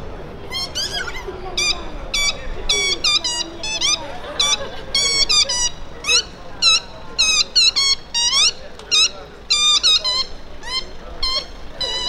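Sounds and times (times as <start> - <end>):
faint crowd murmur: 0.0 - 12.0
squeaker toy squeaking: 0.5 - 12.0.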